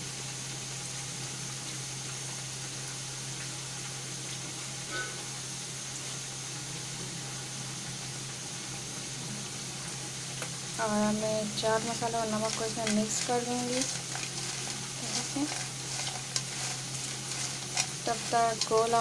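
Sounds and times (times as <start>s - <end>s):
potato slices deep-frying in oil: 0.0s - 19.0s.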